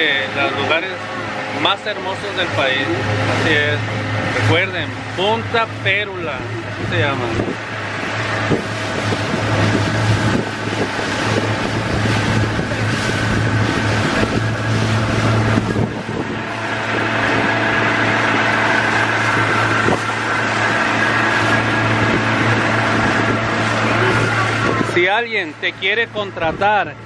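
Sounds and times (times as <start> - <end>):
outboard motor humming: 0.0 - 27.0
water rushing past hull: 0.0 - 27.0
wind buffeting microphone: 2.2 - 27.0.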